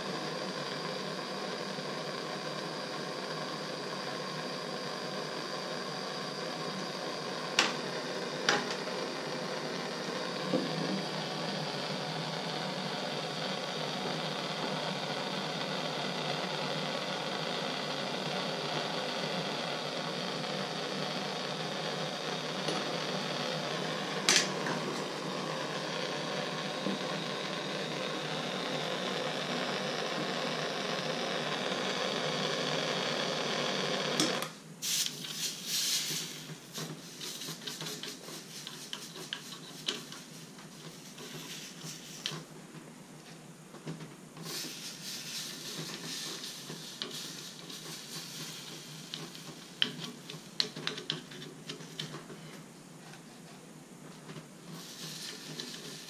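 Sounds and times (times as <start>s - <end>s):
torch flame hissing: 0.0s - 42.5s, 44.4s - 52.0s, 54.6s - 56.0s.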